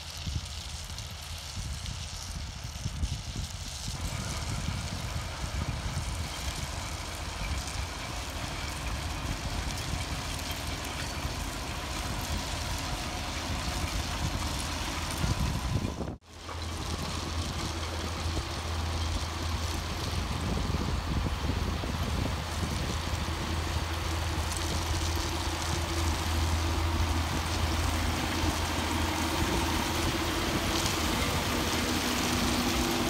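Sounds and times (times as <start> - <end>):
rushing rattle of soil and machinery: 0.0 - 33.0
tractor engine hum: 0.0 - 33.0.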